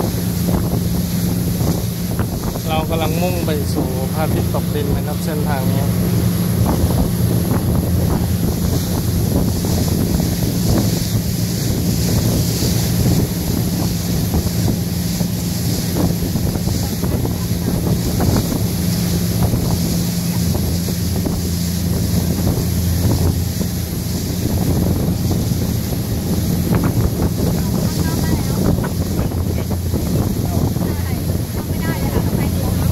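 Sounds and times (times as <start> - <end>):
motorboat engine humming: 0.0 - 32.9
wind buffeting microphone: 0.0 - 32.9.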